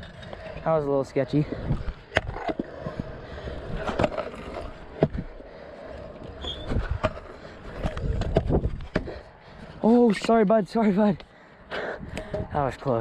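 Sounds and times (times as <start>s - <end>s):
scooter wheels rolling on concrete: 0.0s - 13.0s.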